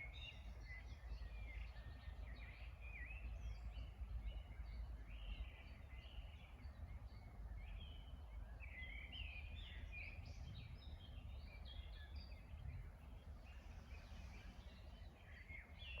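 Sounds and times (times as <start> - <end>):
songbirds chirping and warbling: 0.0 - 16.0.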